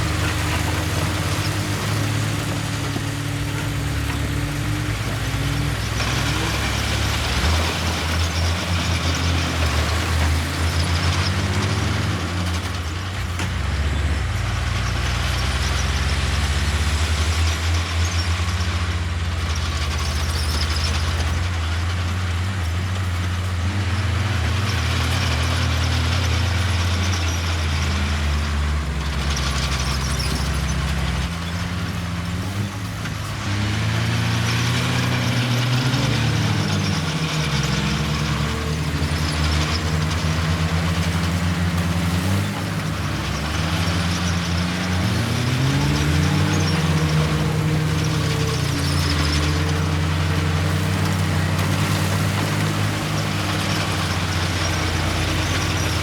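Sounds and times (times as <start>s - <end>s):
heavy diesel engines revving: 0.0s - 56.0s.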